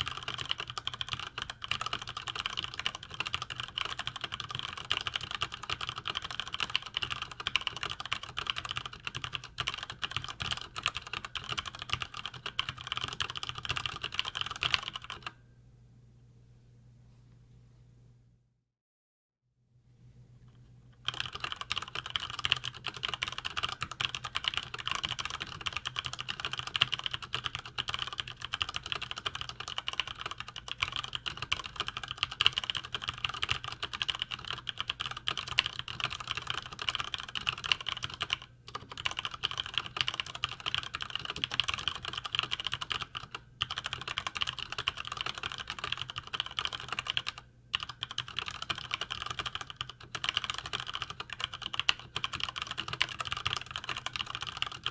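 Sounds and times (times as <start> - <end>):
fast mechanical keyboard typing: 0.0 - 15.3, 21.0 - 54.9.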